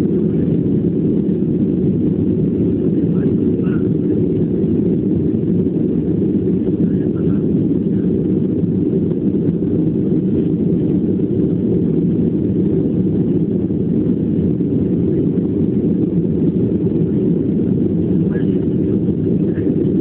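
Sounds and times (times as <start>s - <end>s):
airliner cabin engine rush: 0.0s - 20.0s.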